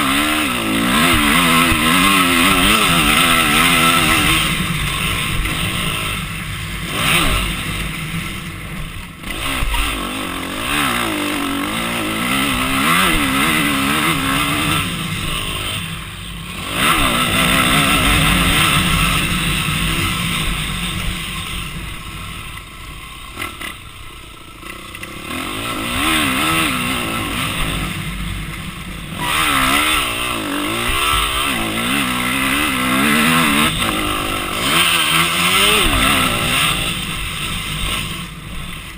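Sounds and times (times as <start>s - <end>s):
off-road engine revving: 0.0s - 38.9s.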